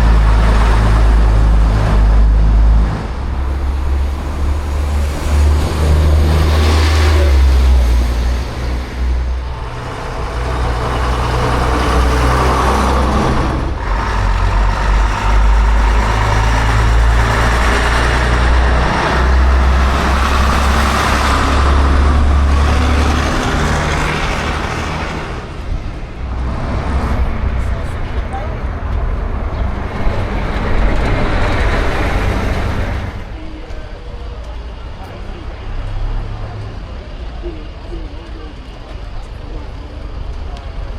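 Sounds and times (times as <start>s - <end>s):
bus diesel engines passing: 0.0s - 40.9s.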